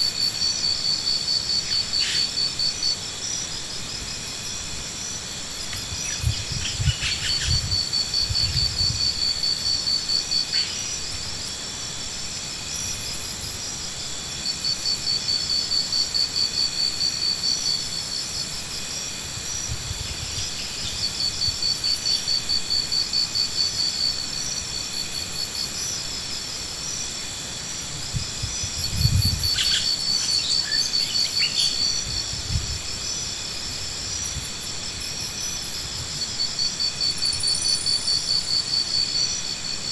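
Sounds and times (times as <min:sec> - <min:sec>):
high-pitched insect chorus: 0:00.0 - 0:39.9
insect pulsed trill: 0:00.0 - 0:39.9.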